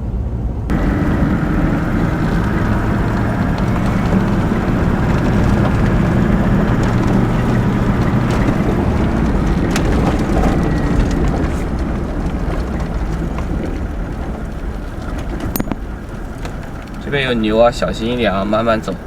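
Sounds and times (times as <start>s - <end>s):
road noise: 0.0s - 19.0s
vehicle engine drone: 0.0s - 19.0s.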